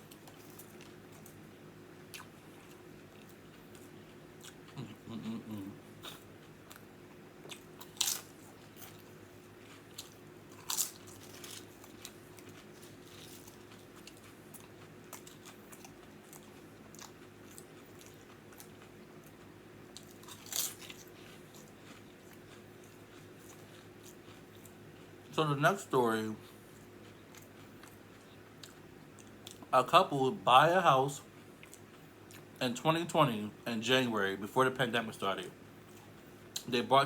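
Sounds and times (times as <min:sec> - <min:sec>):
chewing and biting bread: 0:00.0 - 0:25.3, 0:26.4 - 0:29.7, 0:31.2 - 0:32.6
faint steady hum: 0:00.0 - 0:37.0.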